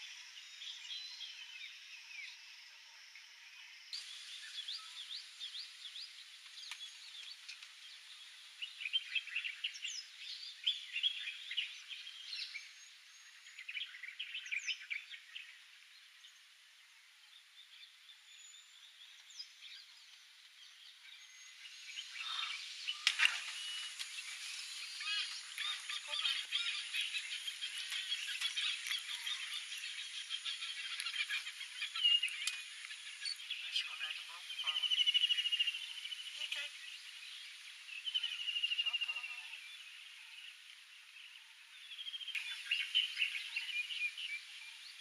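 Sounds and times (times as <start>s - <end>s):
birds chirping and twittering: 0.0s - 45.0s.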